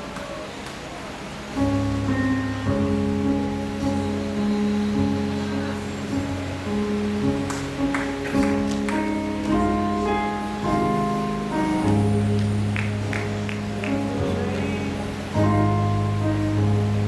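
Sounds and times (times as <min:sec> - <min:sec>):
slow instrumental worship music: 0:01.4 - 0:17.0.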